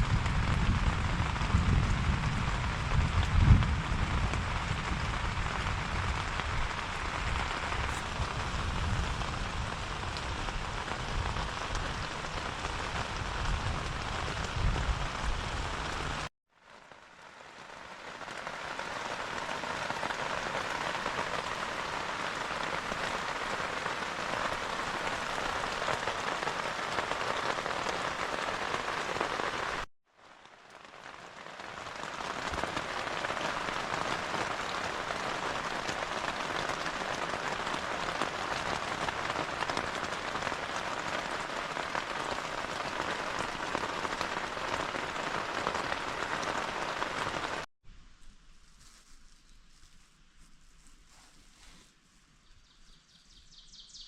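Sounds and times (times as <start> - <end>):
heavy rain: 0.0 - 47.7.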